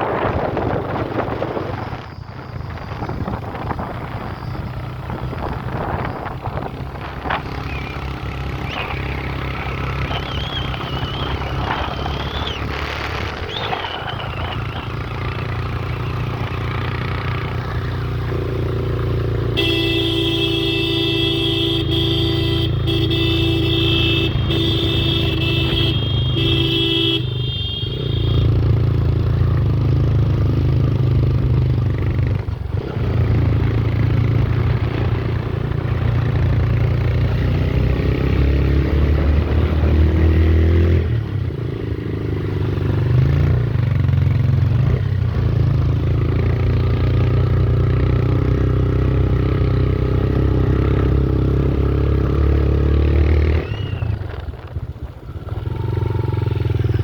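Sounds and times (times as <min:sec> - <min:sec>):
vehicle engine rumbling: 0:00.0 - 0:57.0.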